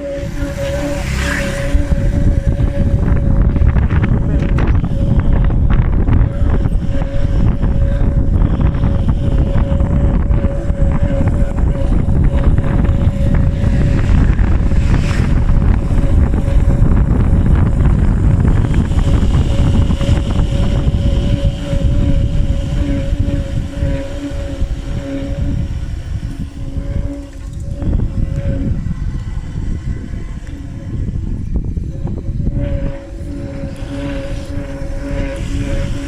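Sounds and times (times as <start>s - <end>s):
lower whine: 0.0s - 36.0s
thin whine: 0.0s - 36.0s
wind buffeting microphone: 0.0s - 36.0s.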